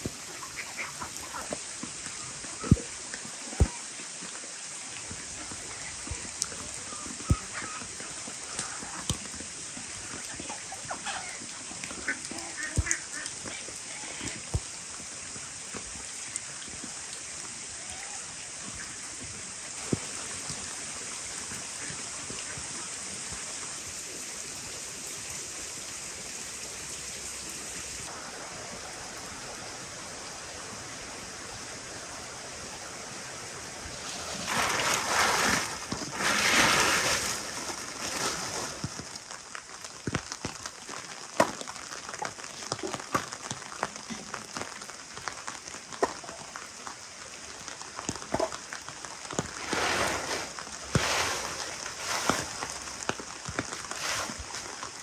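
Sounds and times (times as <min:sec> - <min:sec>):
rain on wet ground: 0:00.0 - 0:55.0.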